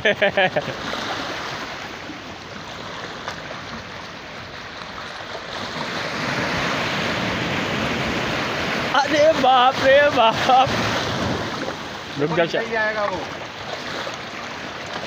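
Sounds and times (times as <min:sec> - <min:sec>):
sea surf washing over rocks: 0:00.4 - 0:15.0.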